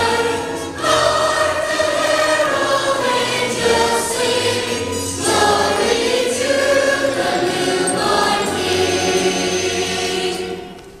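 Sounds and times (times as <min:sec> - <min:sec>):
children's choir singing: 0:00.0 - 0:11.0
instrumental accompaniment: 0:00.0 - 0:11.0.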